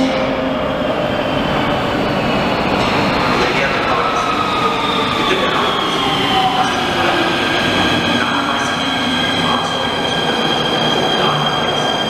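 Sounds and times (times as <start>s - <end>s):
subway train pulling into station: 0.0s - 12.0s.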